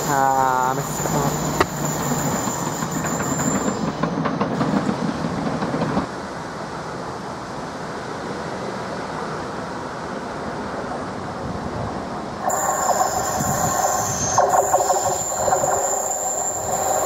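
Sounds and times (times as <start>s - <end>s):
distant train approaching: 0.0s - 17.0s
electric train passing on rails: 0.0s - 17.0s.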